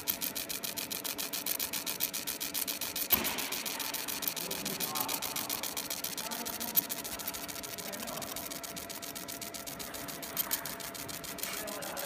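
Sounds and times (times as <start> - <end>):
laser engraver ticking: 0.0 - 12.0.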